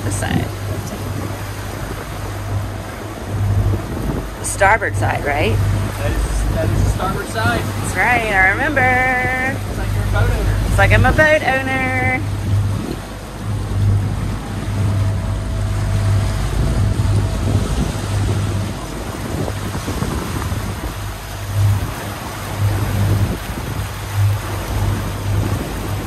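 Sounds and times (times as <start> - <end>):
low hum: 0.0 - 26.0
water rushing past hulls: 0.0 - 26.0
wind buffeting microphone: 0.0 - 26.0.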